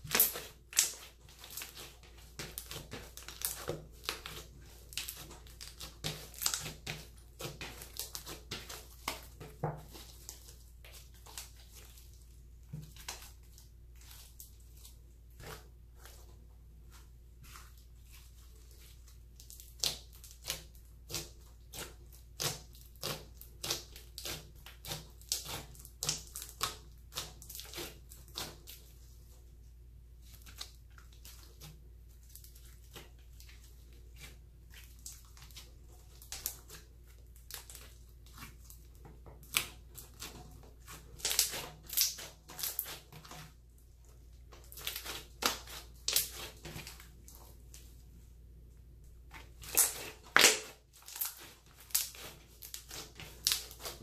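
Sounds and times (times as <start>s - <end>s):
slime squelching and crackling: 0.0s - 54.0s.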